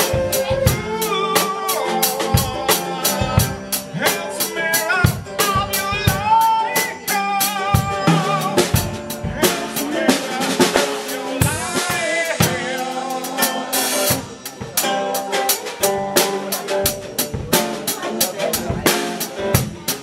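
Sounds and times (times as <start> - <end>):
drum kit beating rhythm: 0.0 - 20.0
man singing: 0.0 - 20.0
strummed acoustic guitar: 0.0 - 20.0.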